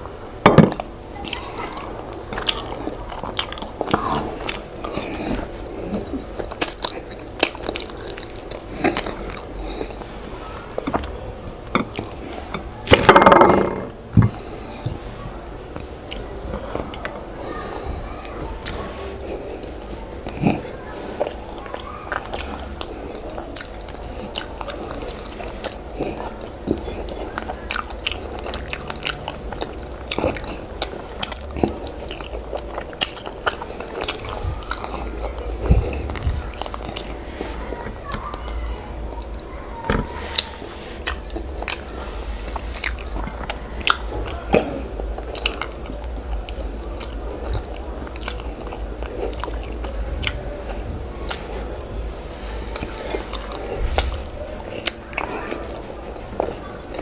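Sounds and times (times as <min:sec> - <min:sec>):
steady low hum: 0:00.0 - 0:57.0
wet chewing and mouth smacks: 0:01.0 - 0:13.0, 0:18.5 - 0:51.9, 0:52.7 - 0:57.0.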